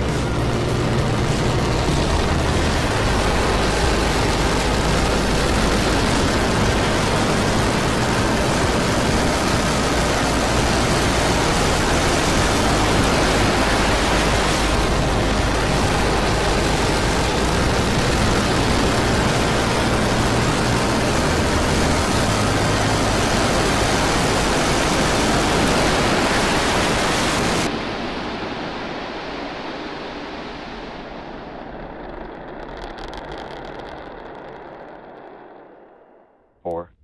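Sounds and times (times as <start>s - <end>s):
rocket engines roaring: 0.0s - 36.9s.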